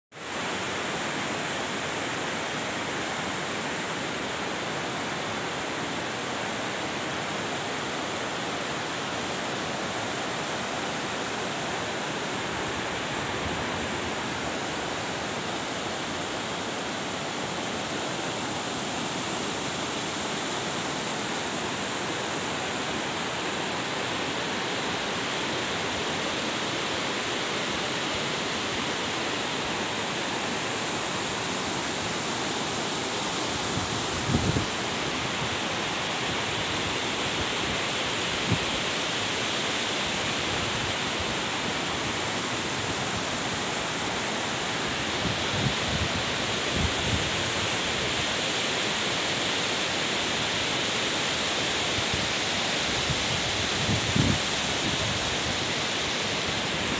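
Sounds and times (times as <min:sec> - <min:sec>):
stream rushing over rocks: 0:00.1 - 0:56.9.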